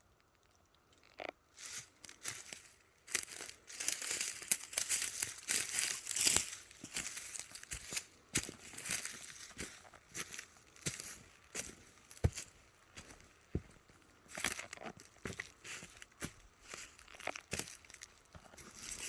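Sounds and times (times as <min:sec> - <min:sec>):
dry leaves and twigs crunching: 0:01.1 - 0:19.0.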